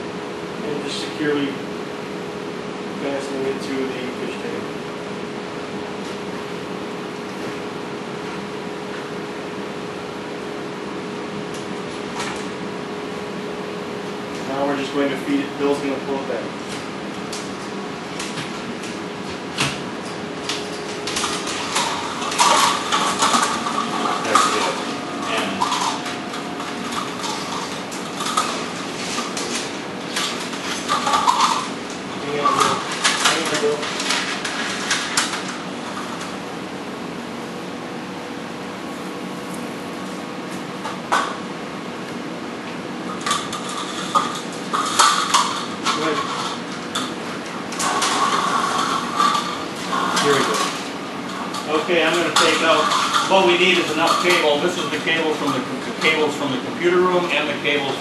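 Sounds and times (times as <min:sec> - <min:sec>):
room hum: 0:00.0 - 0:58.0.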